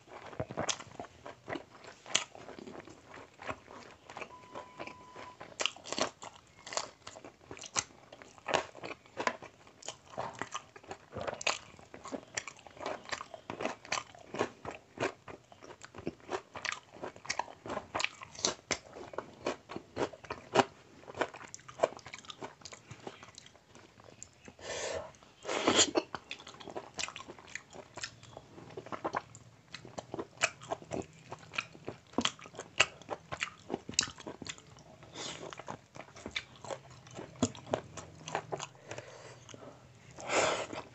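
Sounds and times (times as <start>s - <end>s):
wet chewing and lip-smacking: 0.0s - 40.9s.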